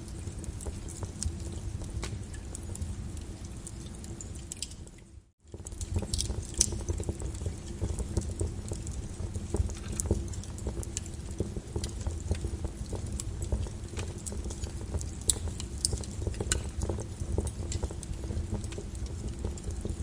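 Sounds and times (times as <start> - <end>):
lava crackling and popping: 0.0 - 20.0.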